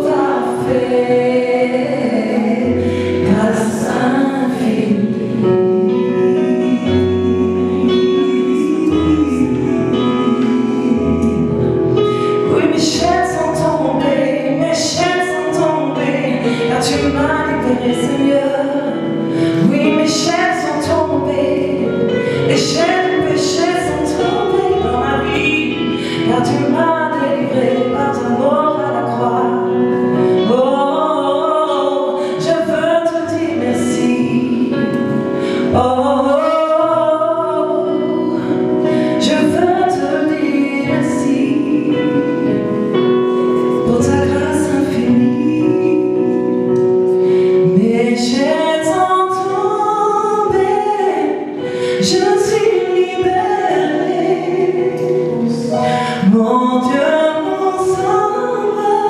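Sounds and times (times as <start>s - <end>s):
sustained musical accompaniment: 0.0s - 59.0s
woman singing gospel: 0.0s - 59.0s.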